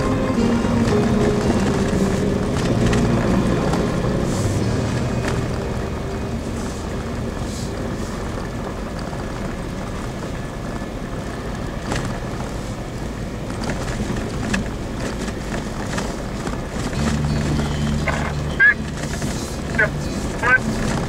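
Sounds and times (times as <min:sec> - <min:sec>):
engine hum: 0:00.0 - 0:21.0
rumbling road noise: 0:00.0 - 0:21.0.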